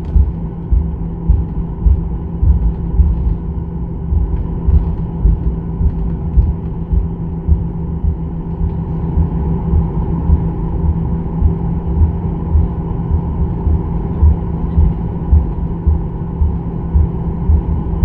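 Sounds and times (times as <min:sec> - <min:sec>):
airliner taxiing rumble: 0:00.0 - 0:18.0
jet engines humming: 0:00.0 - 0:18.0.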